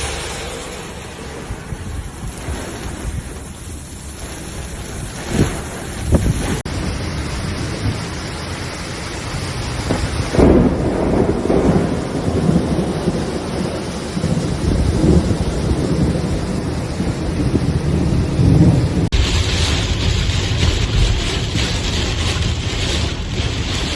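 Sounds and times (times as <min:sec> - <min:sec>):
rain hissing: 0:00.0 - 0:23.9
thunder rolling: 0:00.0 - 0:23.9.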